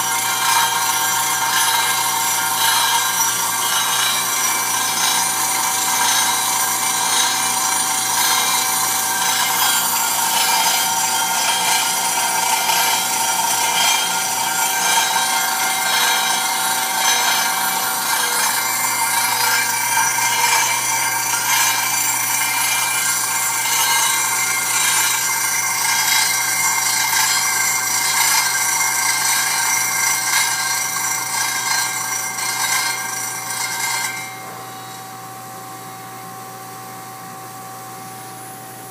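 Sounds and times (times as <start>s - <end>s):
grinder rasping with high whine: 0.0s - 38.9s.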